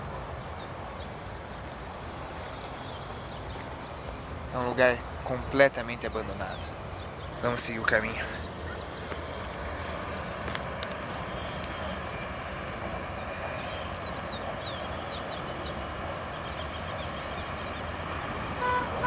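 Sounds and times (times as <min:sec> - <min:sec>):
outdoor ambient noise: 0:00.0 - 0:19.0.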